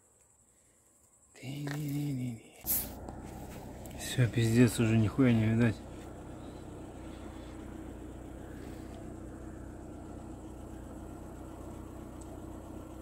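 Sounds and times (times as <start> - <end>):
car engine idling: 0.4 - 13.0.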